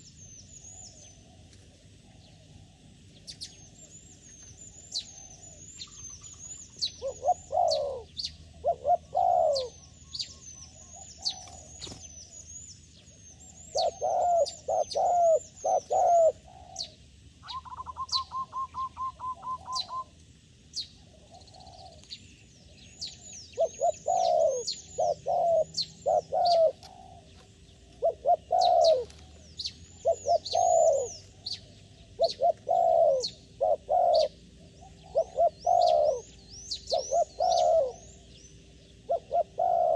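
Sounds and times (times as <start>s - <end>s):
doves cooing: 0.0s - 12.1s, 13.1s - 20.2s, 21.0s - 22.1s, 22.7s - 39.9s
small bird chirping: 0.0s - 39.9s.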